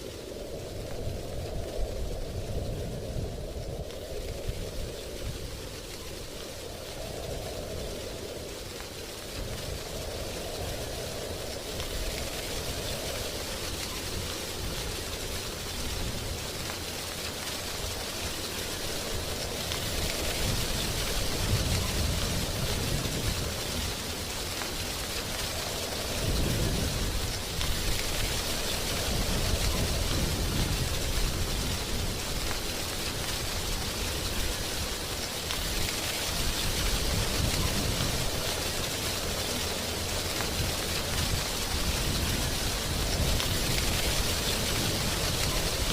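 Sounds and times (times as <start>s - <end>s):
wind rustling tree leaves: 0.0s - 45.9s.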